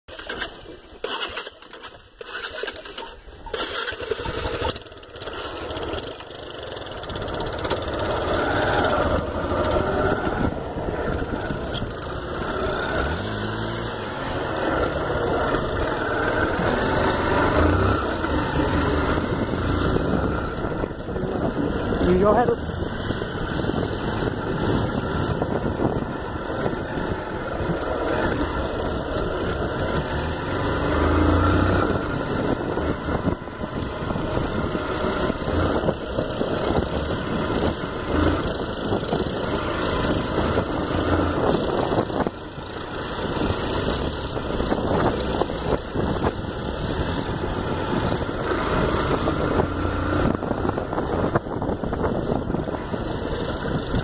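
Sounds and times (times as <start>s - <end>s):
motorcycle engine running: 0.1s - 54.0s
road noise: 0.1s - 54.0s
wind rush: 7.6s - 54.0s.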